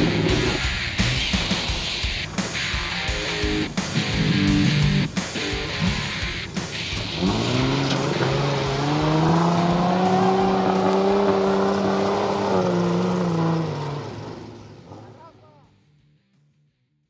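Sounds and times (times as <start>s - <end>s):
truck engine revving hard: 0.0s - 15.5s.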